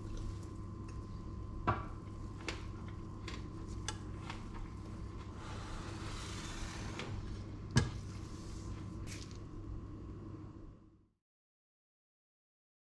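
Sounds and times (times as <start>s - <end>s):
steady hum: 0.0s - 11.1s.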